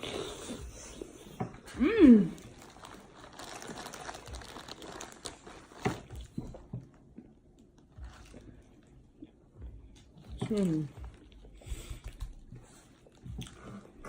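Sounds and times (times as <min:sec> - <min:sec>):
seafood crunching and crinkling: 0:00.0 - 0:14.0.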